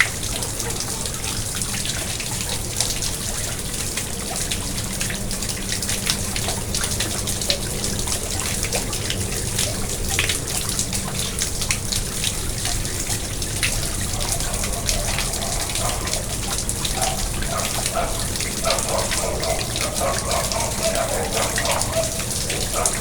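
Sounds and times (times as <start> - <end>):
pond water splashing and trickling: 0.0 - 23.0.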